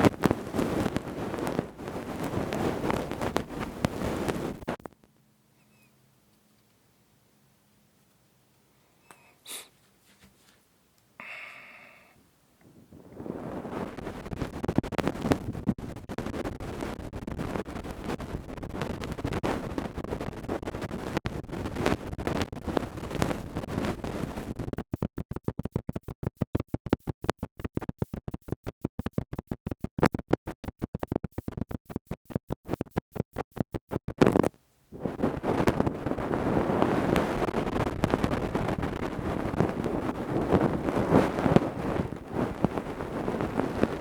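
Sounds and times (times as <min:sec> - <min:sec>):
tools scratching in microphone: 0:00.0 - 0:04.9, 0:12.9 - 0:44.0.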